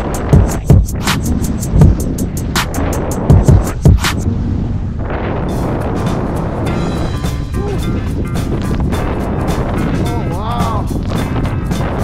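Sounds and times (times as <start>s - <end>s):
music with a beat: 0.0s - 4.3s, 5.5s - 12.0s
heavy low rumble: 0.0s - 12.0s.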